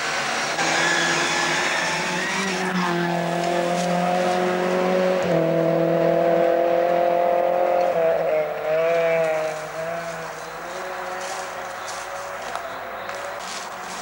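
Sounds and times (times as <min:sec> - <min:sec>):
rally car engine at full throttle: 0:00.0 - 0:14.0.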